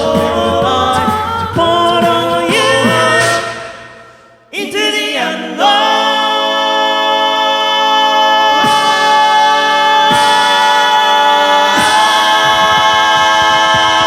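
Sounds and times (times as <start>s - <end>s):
male a cappella group singing: 0.0s - 14.0s.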